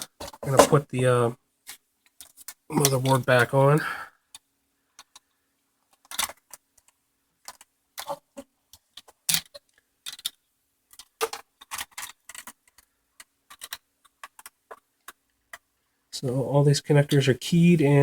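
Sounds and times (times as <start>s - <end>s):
plastic parts clicking and knocking: 0.0s - 0.9s, 1.6s - 3.6s, 4.2s - 15.9s.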